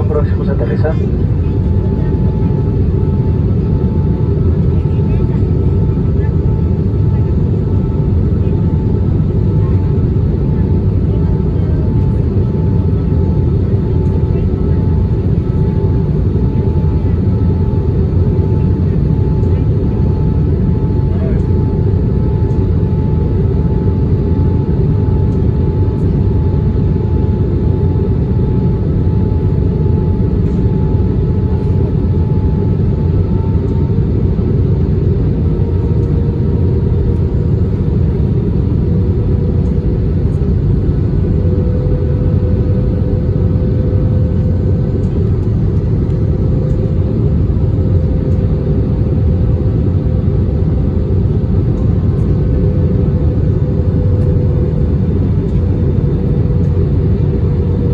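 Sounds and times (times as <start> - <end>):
airflow and jet engines rushing: 0.0 - 57.9
faint engine tones humming: 0.0 - 57.9.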